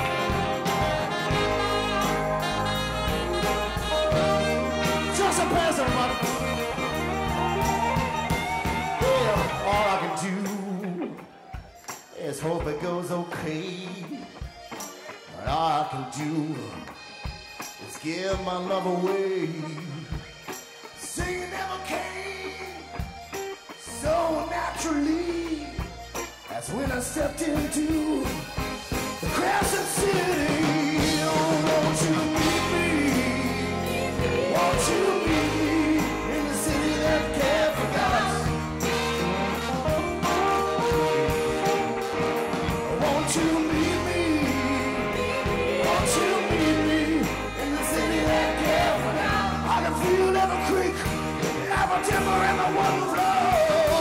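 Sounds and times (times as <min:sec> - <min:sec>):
soul band playing: 0:00.0 - 0:54.0.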